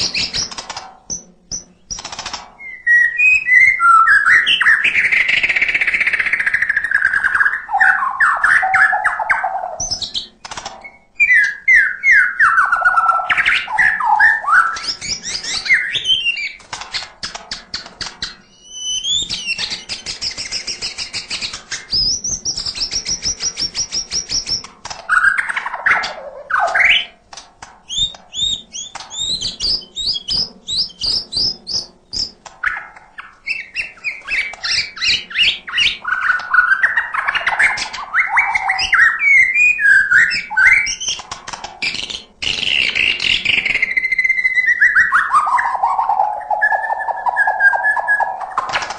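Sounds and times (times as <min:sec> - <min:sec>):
songbird singing varied song: 0:00.0 - 0:16.6, 0:18.2 - 0:27.2, 0:27.9 - 0:41.2, 0:41.8 - 0:48.7.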